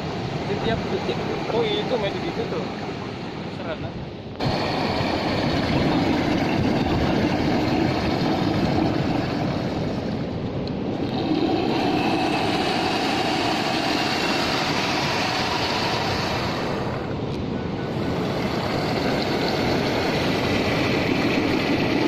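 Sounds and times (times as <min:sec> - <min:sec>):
blowhole rushing hiss: 0:00.0 - 0:22.0.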